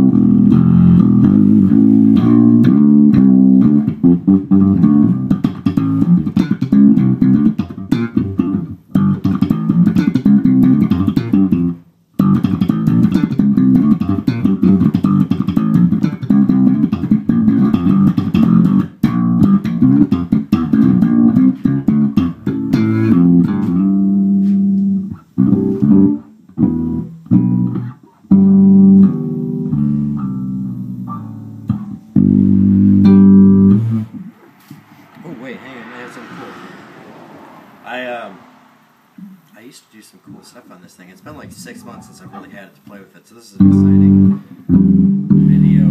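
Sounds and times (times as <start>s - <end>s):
funky electric bass guitar: 0.0s - 34.9s, 41.2s - 42.5s, 43.6s - 45.9s.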